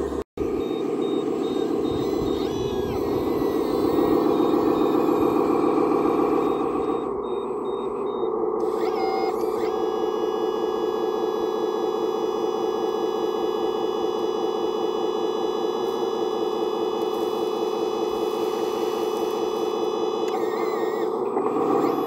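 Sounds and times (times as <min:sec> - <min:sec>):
constant engine hum: 0:00.0 - 0:22.0
high whine of tipping mechanism: 0:00.8 - 0:22.0.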